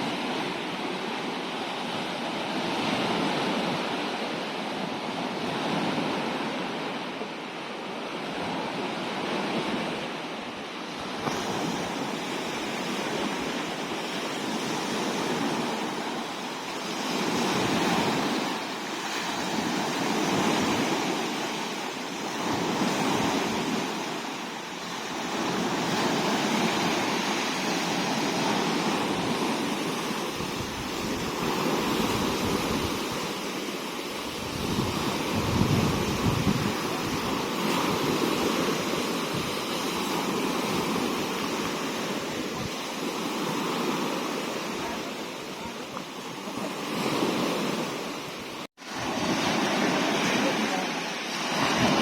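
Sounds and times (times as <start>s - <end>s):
sea waves breaking on shore: 0.0s - 52.0s
wind rumbling on microphone: 8.0s - 52.0s.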